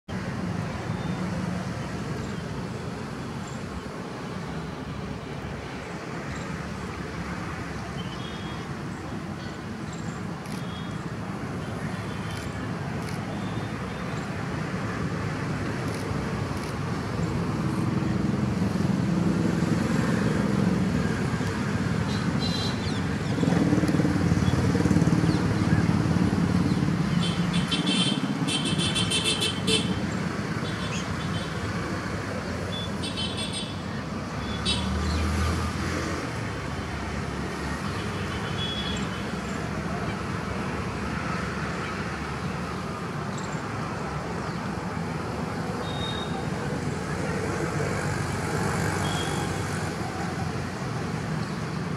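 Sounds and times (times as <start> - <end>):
road traffic: 0.0 - 51.9.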